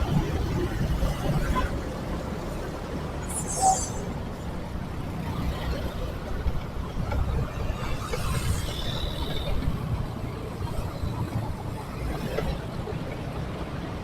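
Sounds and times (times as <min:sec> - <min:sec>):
city traffic: 0:00.0 - 0:14.0.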